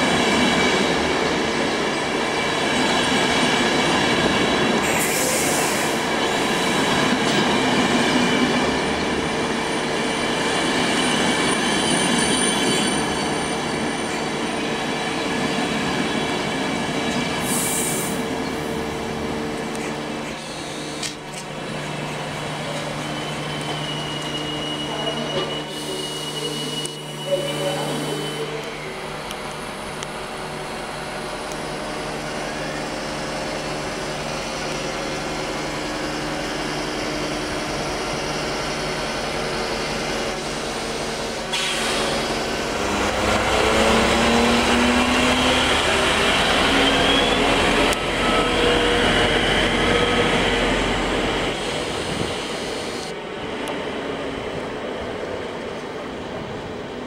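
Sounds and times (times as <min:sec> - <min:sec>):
diesel locomotive engine: 0:00.0 - 0:57.0.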